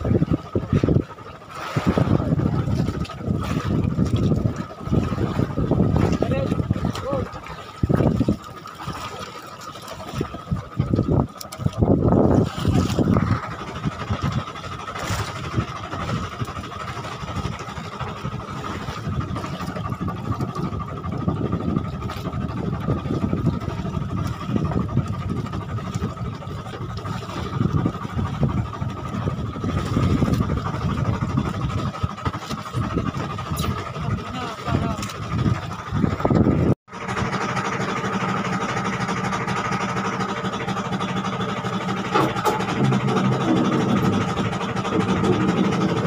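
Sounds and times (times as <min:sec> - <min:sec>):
boat engine humming: 0:00.0 - 0:46.0
wind and water rumble: 0:00.0 - 0:46.0.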